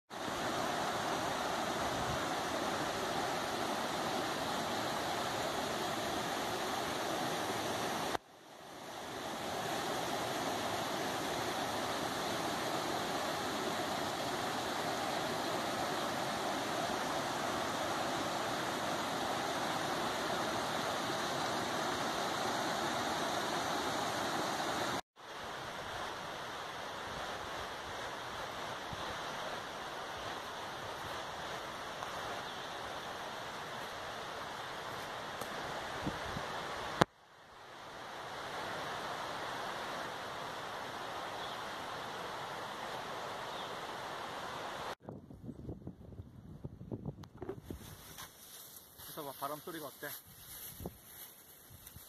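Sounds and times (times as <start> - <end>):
stream rushing over rocks: 0.1 - 45.0.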